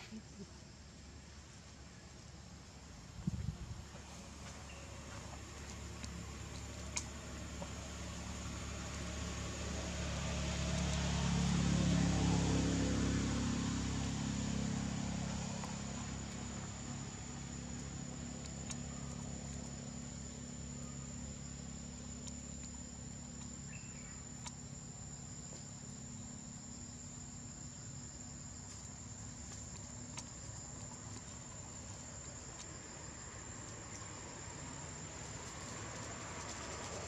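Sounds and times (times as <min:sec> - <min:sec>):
insects trilling: 0:00.0 - 0:37.0
low hum: 0:00.0 - 0:37.0.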